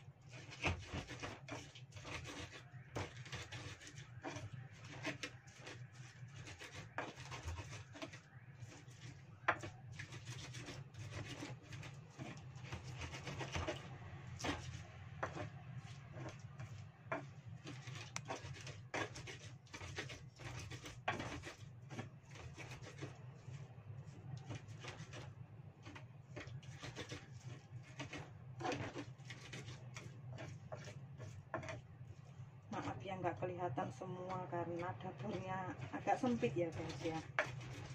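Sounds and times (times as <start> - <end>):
pestle grinding in mortar: 0.2 - 13.8, 14.4 - 23.2, 24.4 - 31.8, 34.4 - 37.9
scraping and knocks on mortar: 0.2 - 23.2, 24.4 - 31.9, 33.8 - 37.9.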